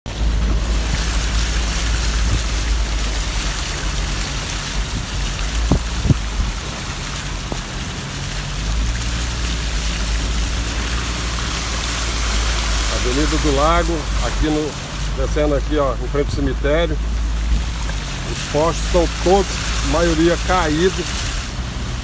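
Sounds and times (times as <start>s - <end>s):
car rumble: 0.0s - 22.0s
rain and tyres hissing on water: 0.1s - 22.0s.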